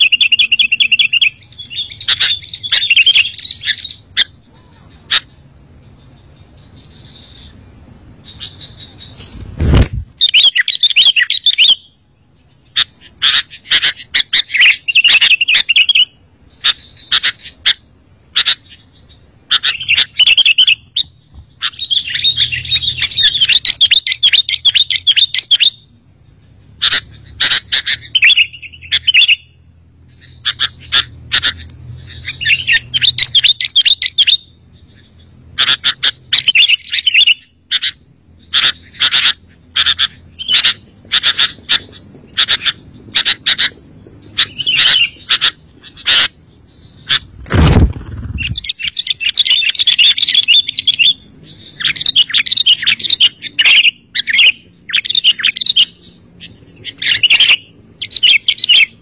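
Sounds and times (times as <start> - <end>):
bird chirping and warbling: 0.0 - 59.0.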